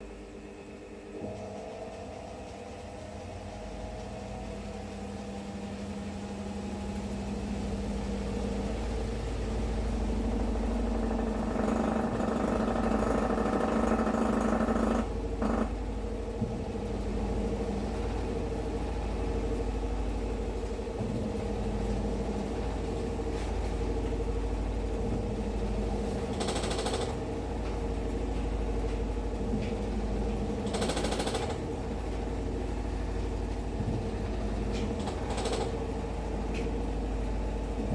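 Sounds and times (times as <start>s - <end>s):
washing machine drone and rumble: 0.0s - 37.9s.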